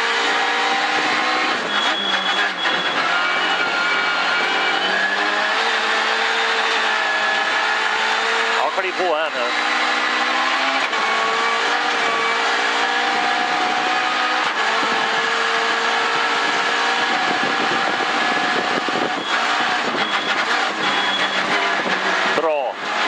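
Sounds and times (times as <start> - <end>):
car engine at full throttle: 0.0 - 23.0.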